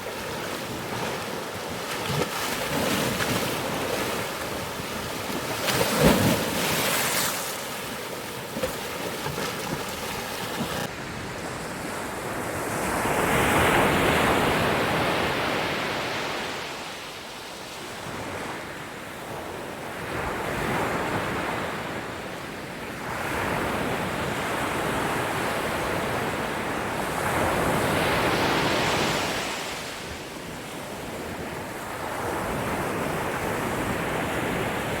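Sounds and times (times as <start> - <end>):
ocean waves breaking on shore: 0.0 - 21.8, 23.1 - 35.0.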